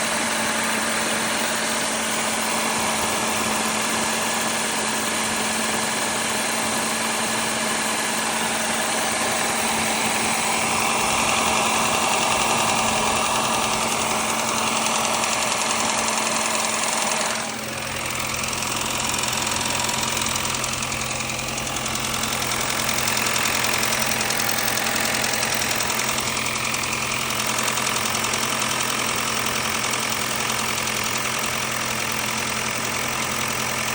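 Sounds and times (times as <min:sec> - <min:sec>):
car engine running: 0:00.0 - 0:33.9
strange engine noise: 0:00.0 - 0:33.9.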